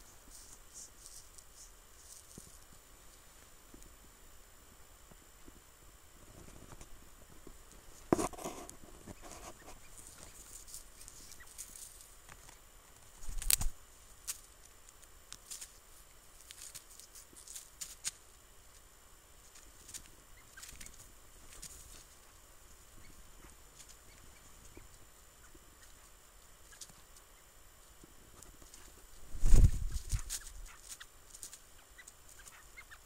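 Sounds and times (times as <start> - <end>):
quiet rustling: 0.0 - 33.0.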